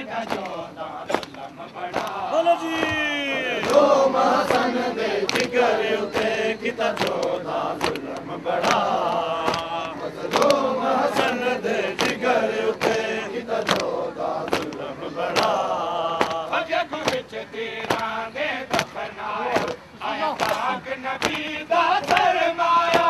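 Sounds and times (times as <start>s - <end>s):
men chanting together: 0.0s - 23.0s
rhythmic chest-beating slaps: 0.0s - 23.0s.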